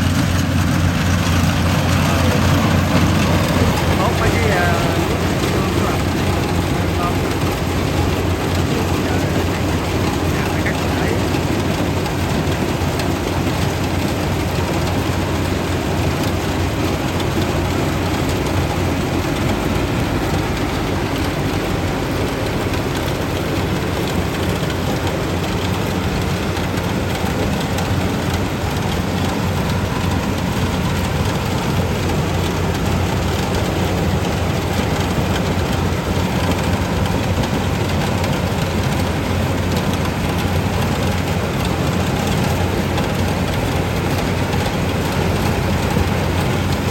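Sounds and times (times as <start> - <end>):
combine harvester engine drone: 0.0 - 46.9
machinery noise: 0.0 - 46.9.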